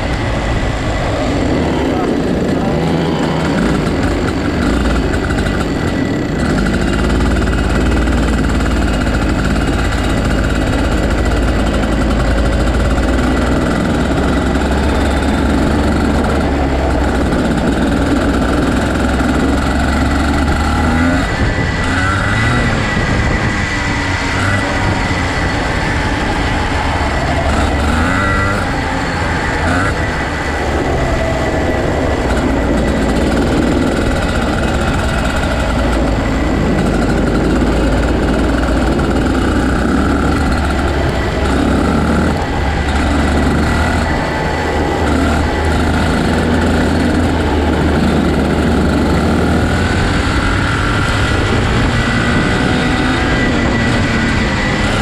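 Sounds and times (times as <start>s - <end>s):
go-kart engines revving: 0.0s - 55.0s.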